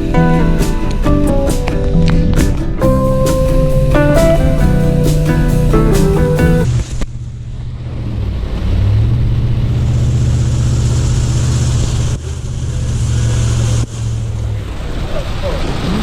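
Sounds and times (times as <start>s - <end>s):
truck engine hum: 1.3s - 15.5s.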